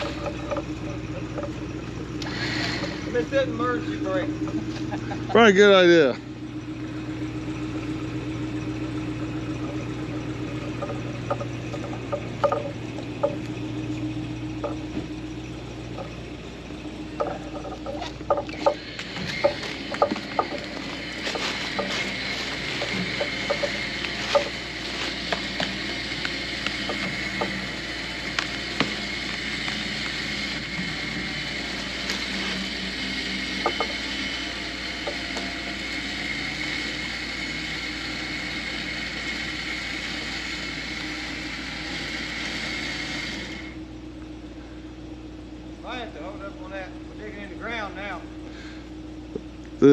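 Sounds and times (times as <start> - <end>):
log dragging on ground: 0.0 - 5.7, 8.3 - 43.7
electric winch motor whine: 0.0 - 49.9.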